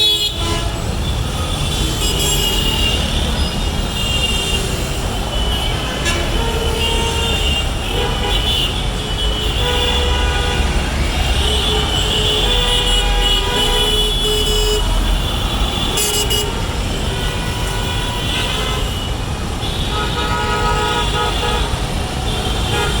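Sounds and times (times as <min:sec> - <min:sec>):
traffic rumble: 0:00.0 - 0:23.0
vehicle horns honking: 0:00.0 - 0:23.0.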